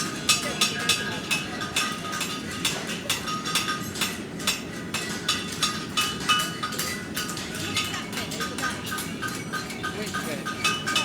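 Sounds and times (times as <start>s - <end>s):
gas forges burning: 0.0s - 11.0s
hammers clanging on anvils: 0.2s - 11.0s.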